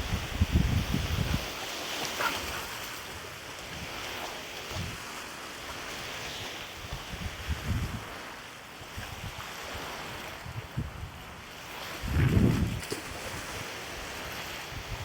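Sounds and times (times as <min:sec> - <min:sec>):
waves lapping: 0:00.0 - 0:15.0
wind buffeting microphone: 0:00.0 - 0:15.0.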